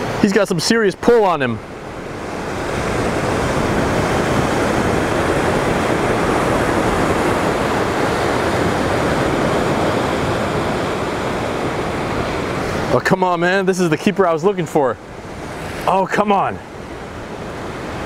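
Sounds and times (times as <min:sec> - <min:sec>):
ocean surf against rocks: 0:00.0 - 0:18.0.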